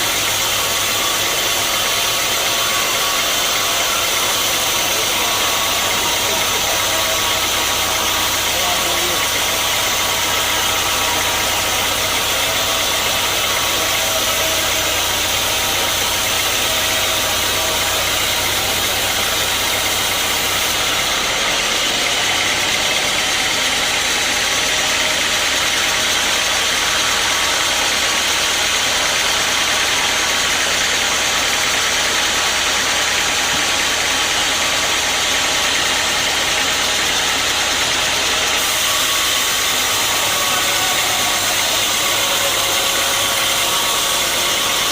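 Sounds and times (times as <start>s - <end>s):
sawmill machinery running: 0.0s - 44.9s.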